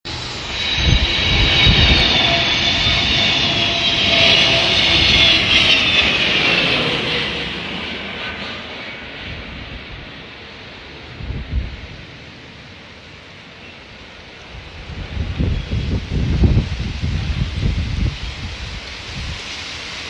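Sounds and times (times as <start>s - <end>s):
jet engines whining: 0.1s - 20.0s.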